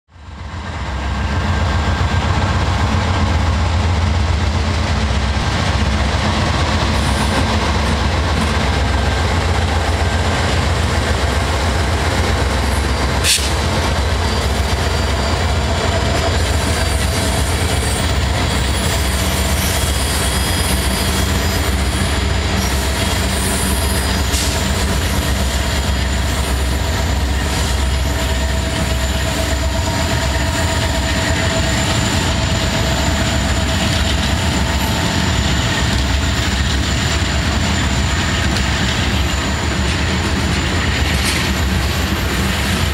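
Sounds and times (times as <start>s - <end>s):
freight train rumbling on rails: 0.1s - 42.9s.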